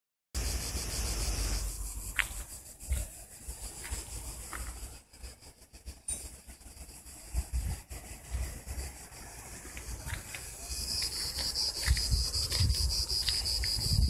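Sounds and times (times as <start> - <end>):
insect buzzing drone: 0.4 - 14.0.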